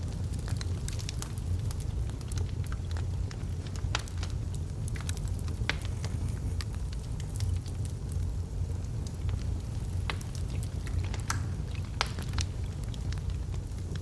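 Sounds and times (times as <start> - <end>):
burning logs crackling and popping: 0.0 - 14.0
low rumble of fire: 0.0 - 14.0.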